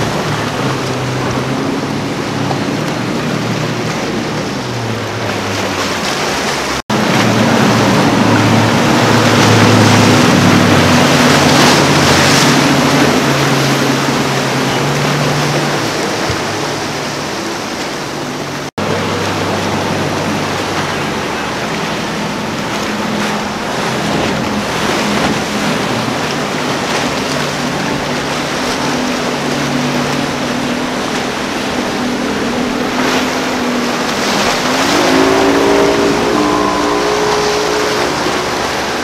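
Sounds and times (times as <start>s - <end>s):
outboard motors running at speed: 0.0s - 39.0s
rush of hull spray and wake: 0.0s - 39.0s.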